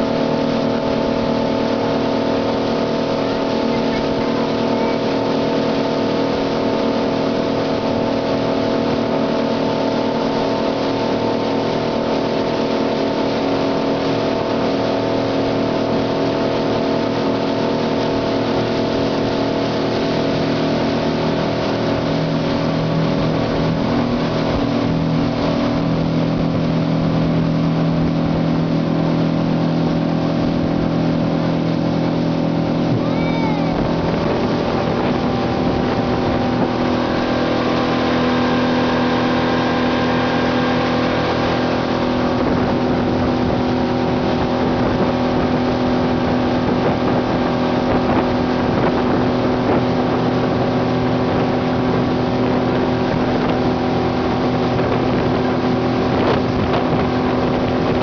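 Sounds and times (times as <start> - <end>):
speed boat engine running: 0.0 - 58.0
water rushing along hull: 0.0 - 58.0.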